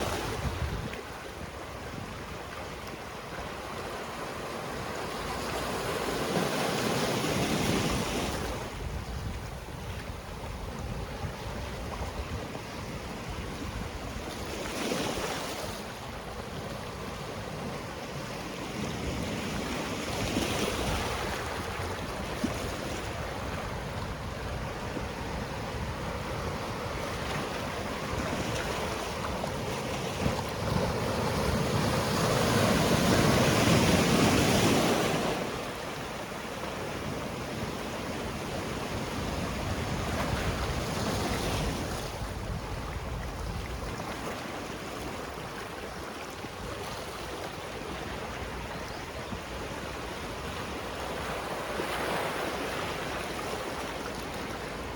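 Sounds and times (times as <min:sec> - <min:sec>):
wind on microphone: 0:00.0 - 0:03.9, 0:04.7 - 0:54.9
sea waves breaking on shore: 0:00.0 - 0:54.9.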